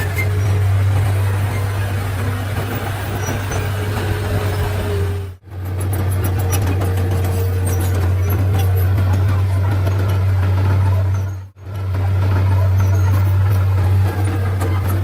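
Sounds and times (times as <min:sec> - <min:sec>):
bulldozer diesel engine drone: 0:00.0 - 0:15.0.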